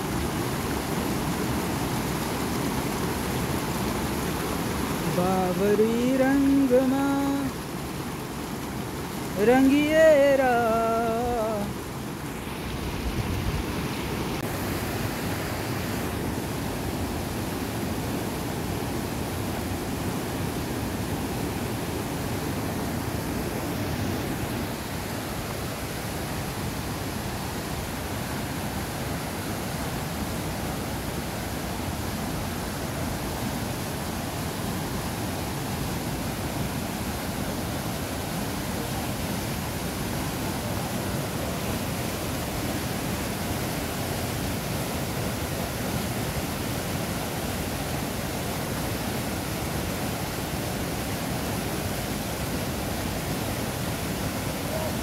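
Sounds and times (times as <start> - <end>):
rushing whitewater river: 0.0 - 55.0.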